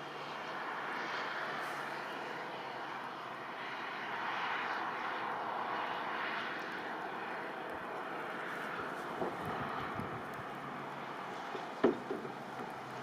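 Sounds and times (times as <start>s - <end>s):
high wind roaring in gusts: 0.4s - 13.0s.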